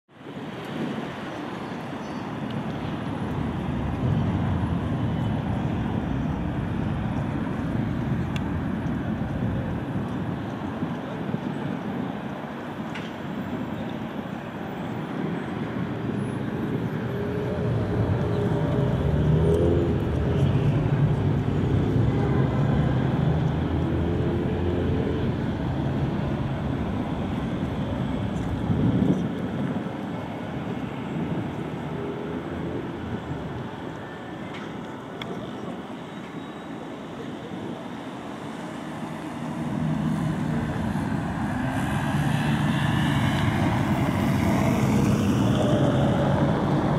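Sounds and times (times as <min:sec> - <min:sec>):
road traffic rumble: 0:00.1 - 0:46.9.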